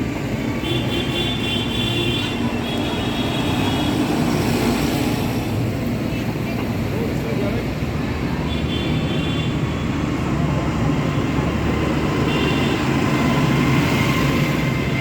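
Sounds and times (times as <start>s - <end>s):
tractor engines droning: 0.0s - 15.0s.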